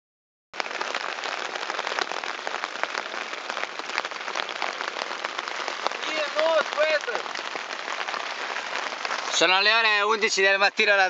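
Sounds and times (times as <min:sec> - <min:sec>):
heavy rain on tent fabric: 0:00.5 - 0:11.0.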